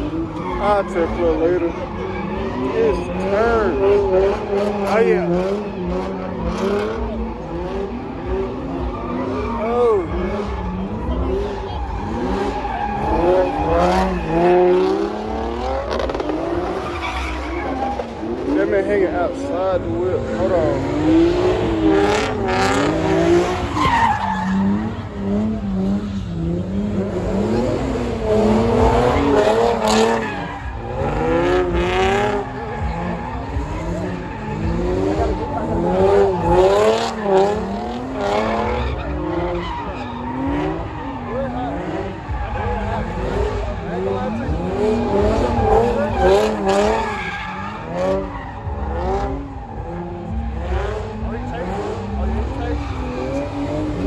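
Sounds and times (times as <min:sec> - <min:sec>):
car engine noise: 0:00.0 - 0:54.0
car tyres squealing: 0:00.0 - 0:54.0.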